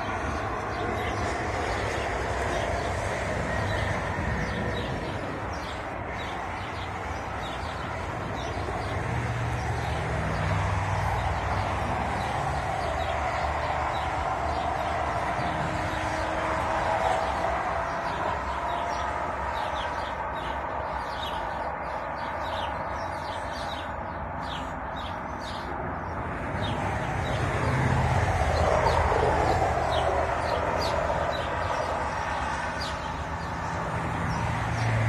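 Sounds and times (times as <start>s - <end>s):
road traffic hum: 0.0s - 35.0s
vehicle passing: 0.0s - 35.0s.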